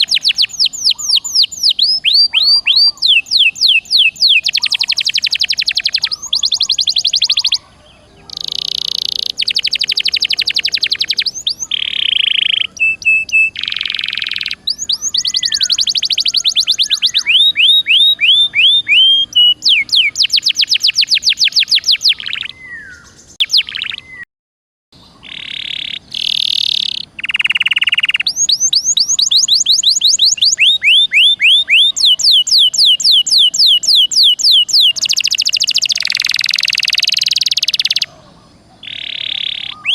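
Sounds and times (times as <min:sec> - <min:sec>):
canary singing trills: 0:00.0 - 0:24.2, 0:25.0 - 0:39.9.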